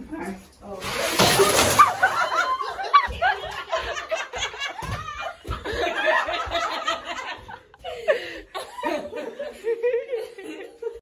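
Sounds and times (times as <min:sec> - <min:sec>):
people laughing and giggling: 0:01.6 - 0:11.0.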